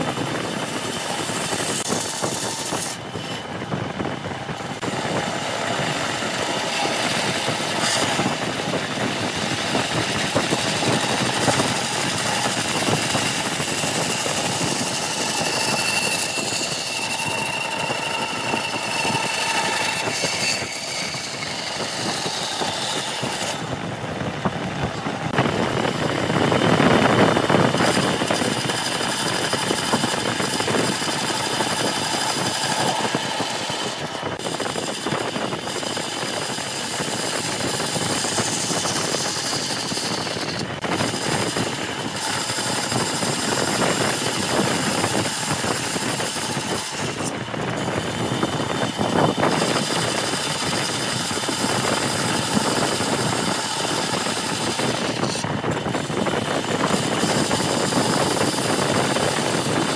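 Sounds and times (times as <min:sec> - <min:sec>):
bandsaw cutting wood: 0:00.0 - 0:59.9.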